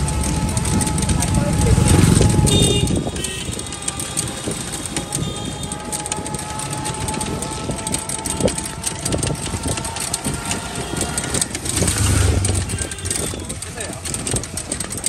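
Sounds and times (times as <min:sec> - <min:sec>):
rickshaw running noise: 0:00.0 - 0:15.0
small rattles and knocks: 0:00.0 - 0:15.0
wind buffeting microphone: 0:00.0 - 0:15.0.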